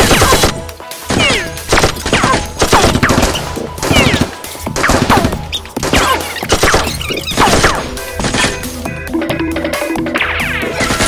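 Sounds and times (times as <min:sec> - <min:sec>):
gunfire sound effects: 0:00.0 - 0:08.8, 0:10.2 - 0:11.0
background music: 0:00.0 - 0:11.0.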